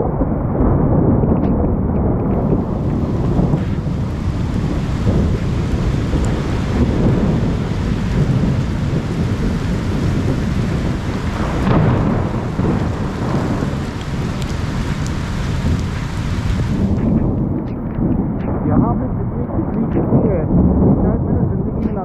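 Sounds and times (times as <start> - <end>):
heavy rain: 0.0 - 22.0
thunder rumbling: 0.0 - 22.0.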